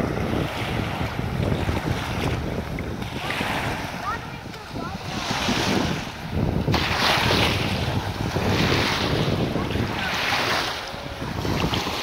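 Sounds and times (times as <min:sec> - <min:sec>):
waves washing on gravel shore: 0:00.0 - 0:12.0
wind buffeting microphone: 0:00.0 - 0:12.0.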